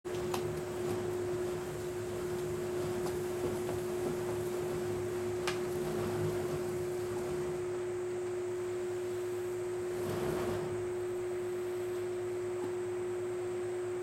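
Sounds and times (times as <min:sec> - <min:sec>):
steady single-pitch hum: 0:00.1 - 0:14.0.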